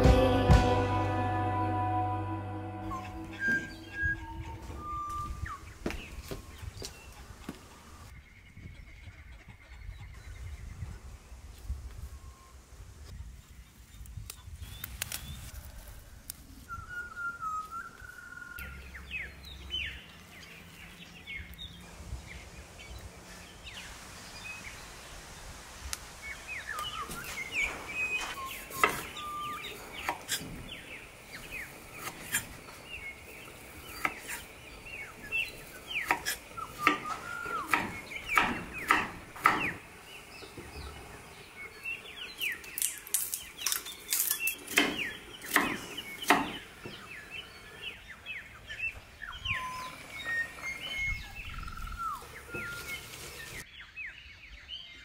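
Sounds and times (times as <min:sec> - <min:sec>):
birds whistling descending notes: 0:00.0 - 0:07.2, 0:16.4 - 0:55.0.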